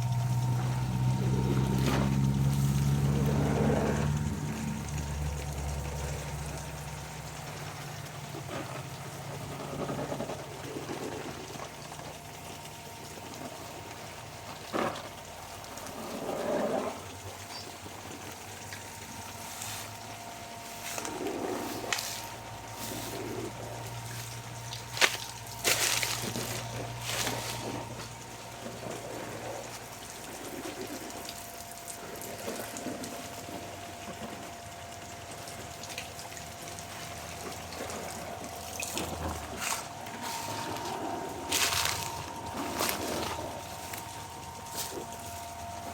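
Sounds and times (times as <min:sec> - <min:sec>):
low motor hum: 0:00.0 - 0:45.9
sprinklers spraying water: 0:00.0 - 0:45.9.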